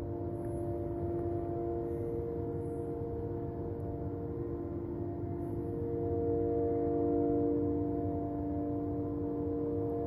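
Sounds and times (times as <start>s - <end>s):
droning hum of held tones: 0.0s - 10.0s.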